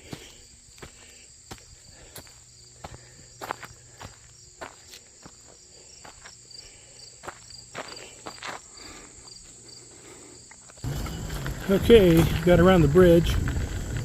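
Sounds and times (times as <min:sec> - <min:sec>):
footsteps on stone and gravel: 0:00.0 - 0:14.0
insects chirping: 0:00.0 - 0:14.0.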